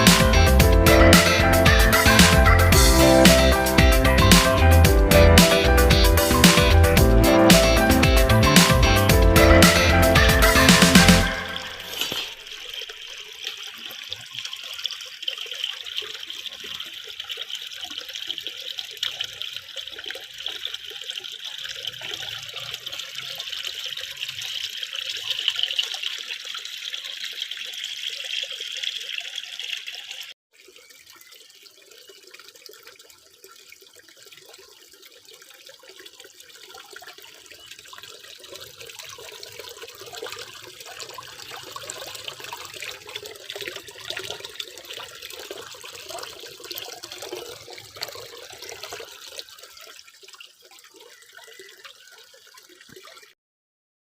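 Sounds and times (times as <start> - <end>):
pond pump water splashing: 0.0 - 53.4.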